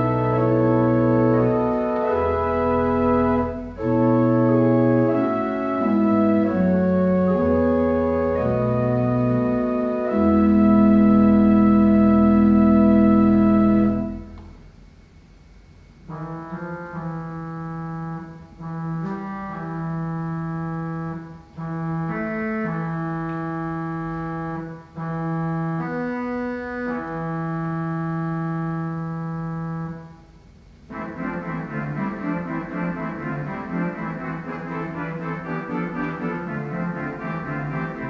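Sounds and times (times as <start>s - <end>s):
pipe organ playing: 0.0s - 14.8s, 16.0s - 38.0s.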